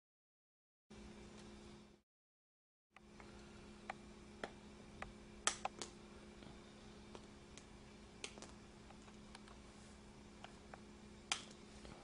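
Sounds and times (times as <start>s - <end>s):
steady low hum: 0.9s - 2.0s, 3.0s - 12.0s.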